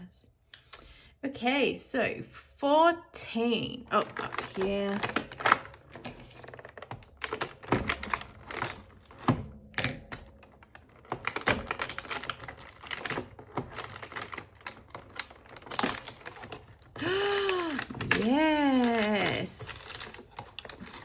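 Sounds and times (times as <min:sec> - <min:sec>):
cardboard clicks and crinkles: 0:03.9 - 0:21.0.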